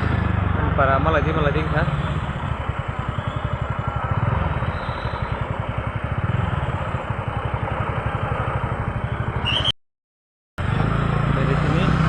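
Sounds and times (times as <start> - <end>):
scooter engine pulsing: 0.0 - 9.7.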